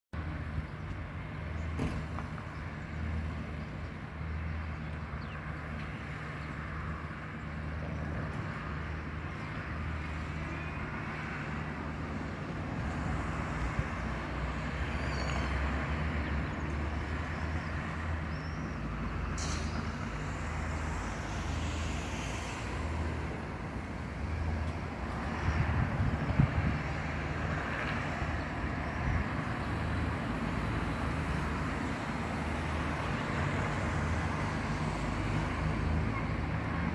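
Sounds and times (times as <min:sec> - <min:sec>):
distant road traffic: 0:00.2 - 0:36.9.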